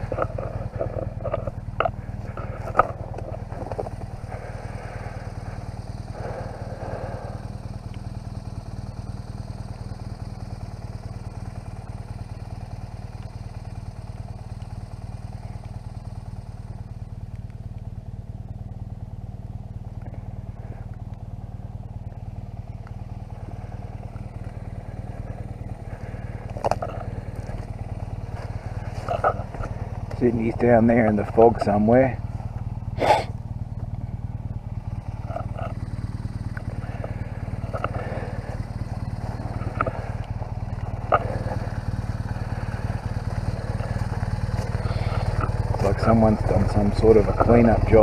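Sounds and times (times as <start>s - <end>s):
motorcycle engine running steadily: 0.0s - 48.0s.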